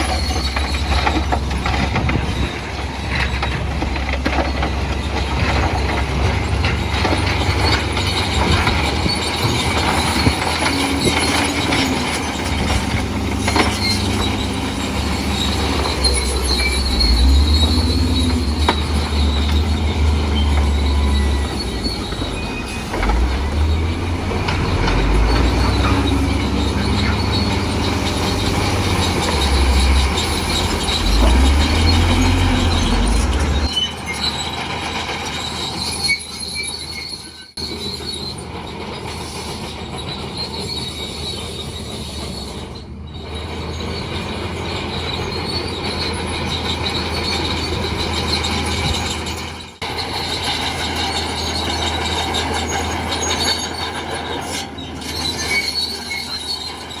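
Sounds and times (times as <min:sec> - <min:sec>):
crawler tracks squealing: 0:00.0 - 0:57.0
diesel engine rumble: 0:00.0 - 0:57.0.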